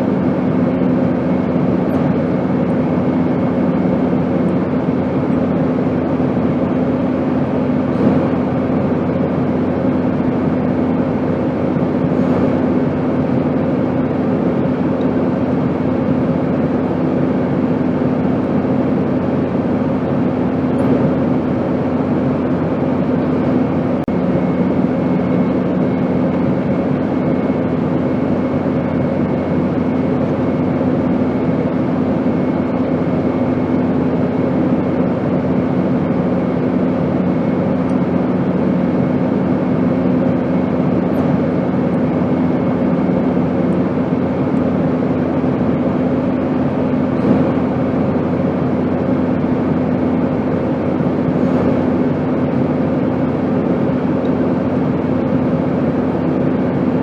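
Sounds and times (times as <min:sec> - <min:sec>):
airplane engine and airflow noise: 0:00.0 - 0:57.0
low hum: 0:00.0 - 0:57.0.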